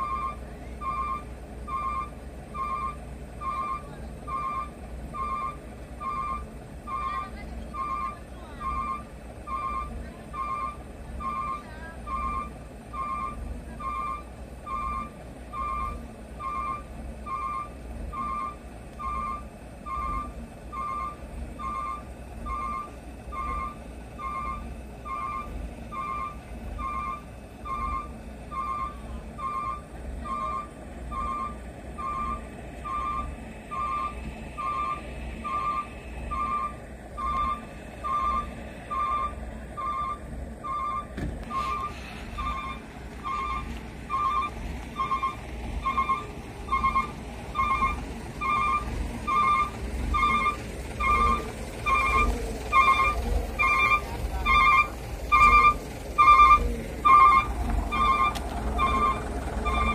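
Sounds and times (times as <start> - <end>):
engine rumbling: 0.0 - 59.9
reversing alarm beeping: 0.0 - 59.9.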